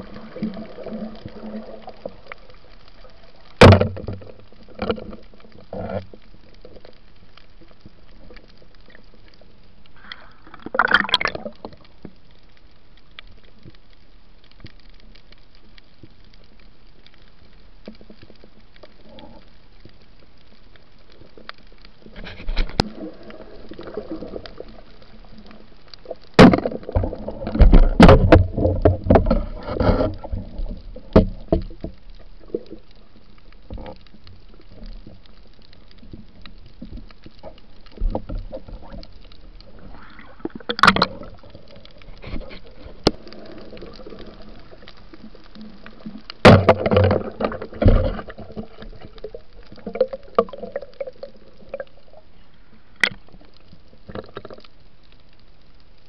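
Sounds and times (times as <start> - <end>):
muffled underwater sloshing: 0.0 - 56.0.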